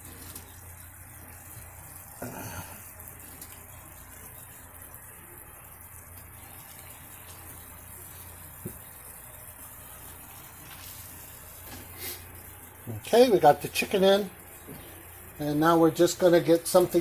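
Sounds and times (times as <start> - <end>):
sauce sizzling in a skillet: 0.0 - 17.0.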